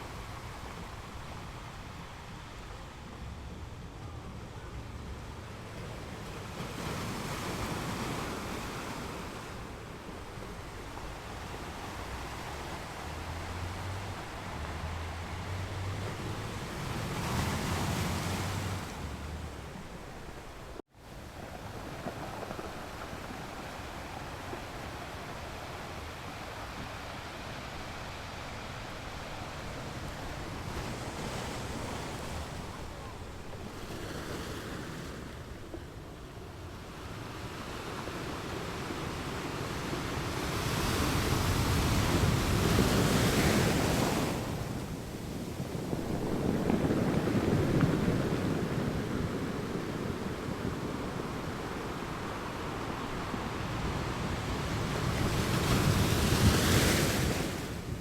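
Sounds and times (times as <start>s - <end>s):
ocean waves breaking: 0.0s - 58.0s
wind buffeting microphone: 0.0s - 58.0s.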